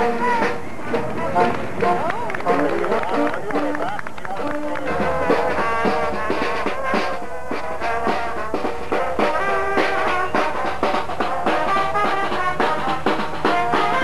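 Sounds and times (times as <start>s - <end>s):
marching band playing: 0.0s - 14.0s
steady drum beat: 0.0s - 14.0s
trumpet and trombone notes: 0.0s - 14.0s.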